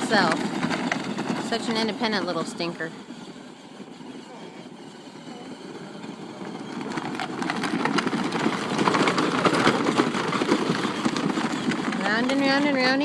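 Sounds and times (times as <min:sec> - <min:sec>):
plastic wheels rattling on ground: 0:00.0 - 0:13.0
small electric motor running: 0:00.0 - 0:13.0.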